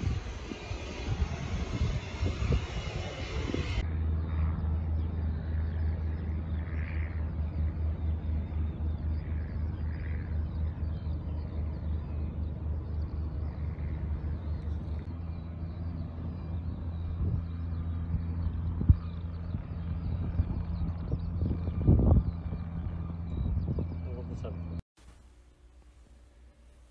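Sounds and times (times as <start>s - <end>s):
low rumble of machinery: 0.0s - 26.9s.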